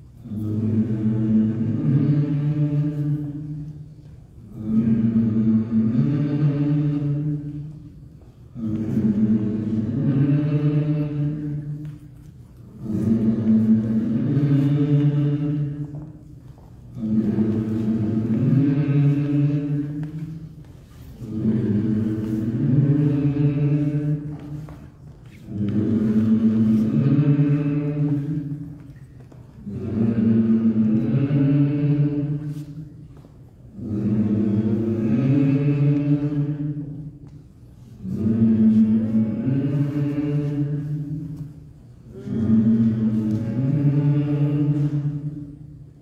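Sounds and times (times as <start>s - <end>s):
low voices chanting: 0.0s - 46.0s.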